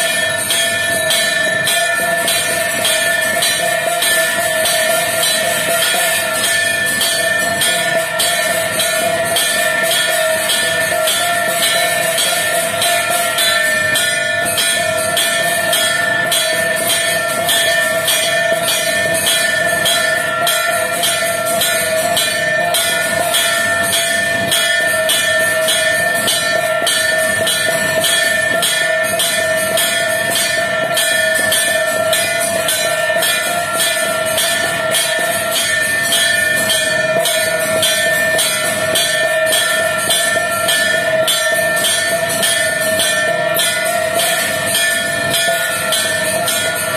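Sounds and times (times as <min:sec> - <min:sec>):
temple bells ringing: 0:00.0 - 0:46.9.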